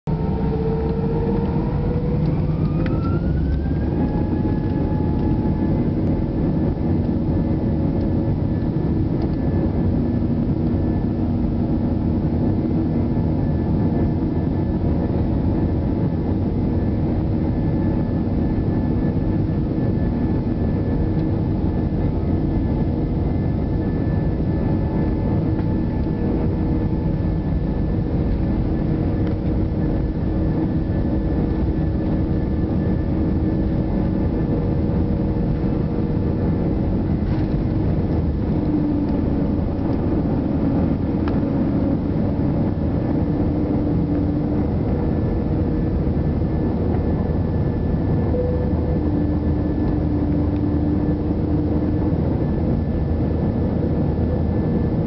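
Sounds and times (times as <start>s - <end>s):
rolling noise of takeoff: 0.1s - 16.1s, 16.7s - 55.0s
jet engines spooling up: 0.1s - 55.0s.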